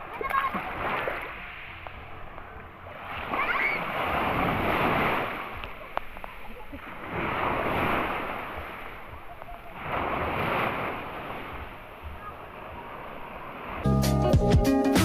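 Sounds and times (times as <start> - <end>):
small waves breaking on shore: 0.0 - 13.9.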